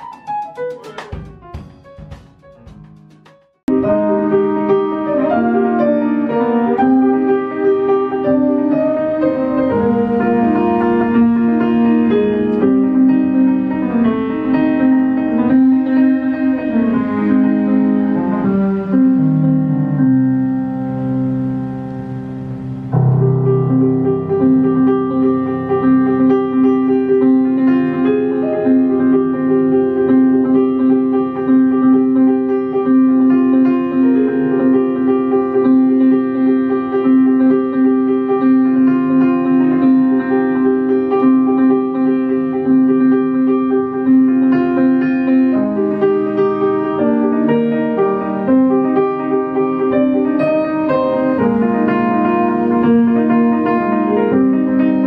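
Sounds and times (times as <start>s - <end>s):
jazz grand piano: 0.0s - 55.0s.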